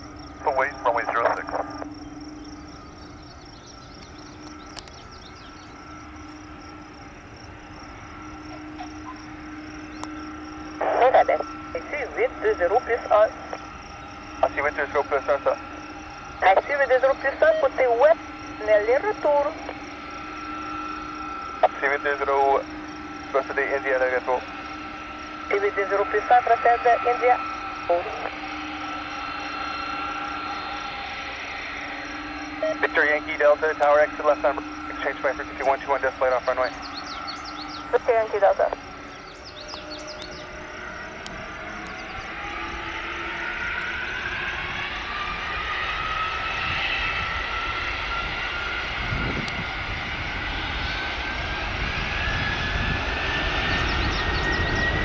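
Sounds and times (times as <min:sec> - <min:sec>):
distant jet engines idling: 0:00.0 - 0:55.0
insects chirping: 0:00.0 - 0:55.0.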